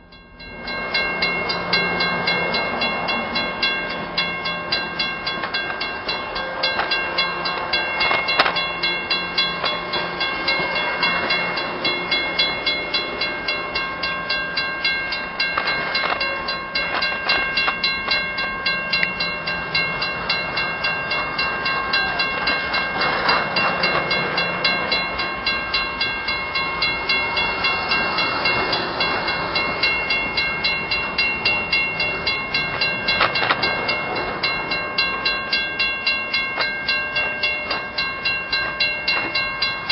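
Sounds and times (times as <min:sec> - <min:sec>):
crossing bell ringing: 0:00.0 - 0:39.9
train rumbling past: 0:00.0 - 0:39.9.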